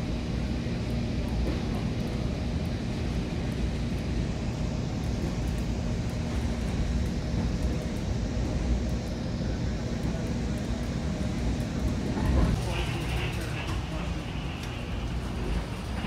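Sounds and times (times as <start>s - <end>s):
constant hum: 0.0s - 16.0s
train coach rumble: 0.0s - 16.0s.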